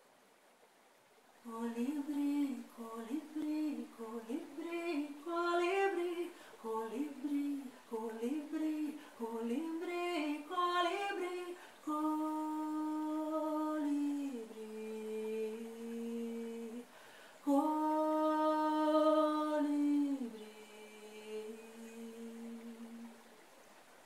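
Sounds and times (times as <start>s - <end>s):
woman singing wordlessly: 1.4s - 23.2s.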